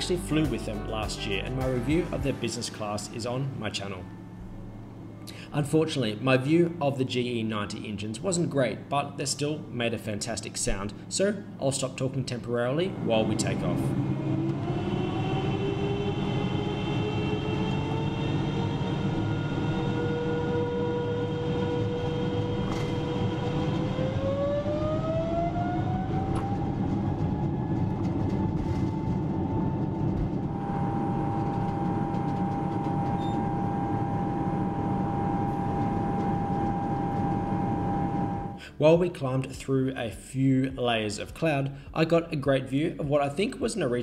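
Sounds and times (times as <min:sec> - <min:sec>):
jet engine rumble and whine: 0:01.6 - 0:38.7.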